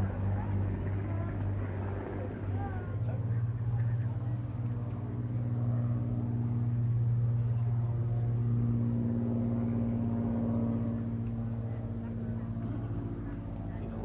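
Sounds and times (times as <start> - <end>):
piston aircraft engines droning: 0.0 - 14.0.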